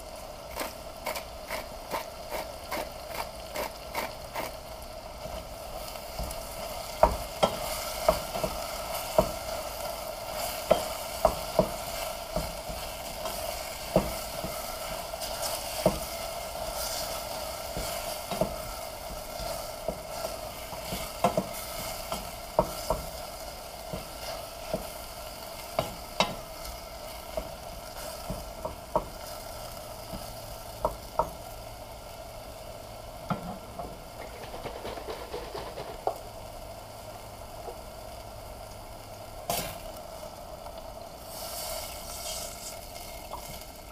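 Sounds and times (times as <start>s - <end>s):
frying sizzle: 0.0s - 43.9s.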